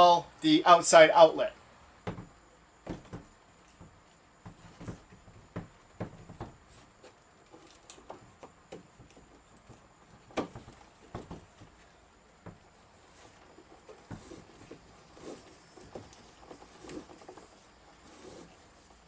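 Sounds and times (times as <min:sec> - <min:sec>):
cable knocking and rubbing on wood: 0:02.0 - 0:11.8, 0:12.4 - 0:19.0.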